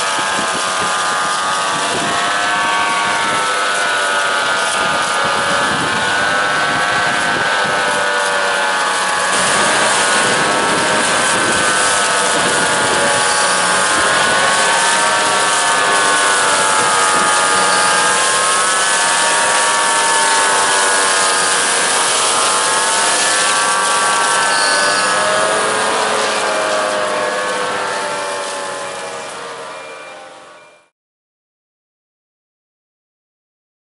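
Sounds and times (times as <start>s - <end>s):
steady rushing noise: 0.0s - 29.1s
hedge cutter whine: 0.0s - 30.9s.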